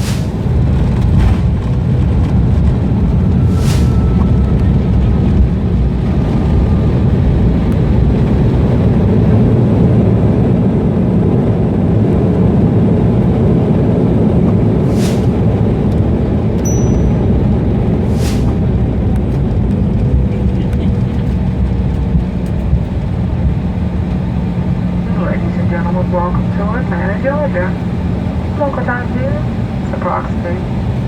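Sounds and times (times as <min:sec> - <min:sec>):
jet engines reverse thrust roar: 0:00.0 - 0:31.0.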